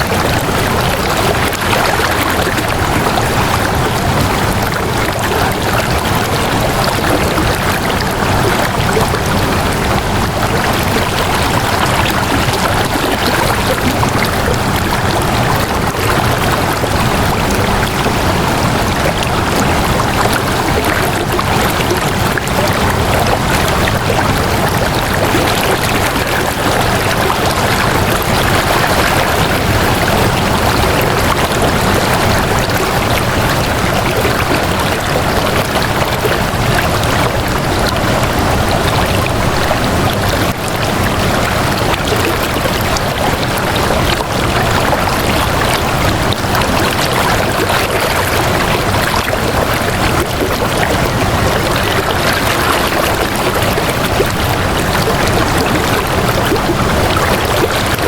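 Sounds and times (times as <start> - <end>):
water flowing: 0.0 - 58.0.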